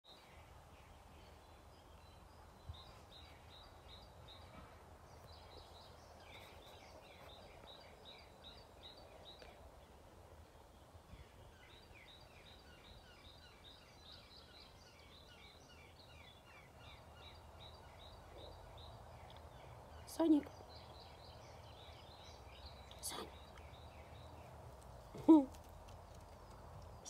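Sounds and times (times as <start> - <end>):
bird chirping: 0.1 - 27.0
faint low background noise: 0.1 - 27.0.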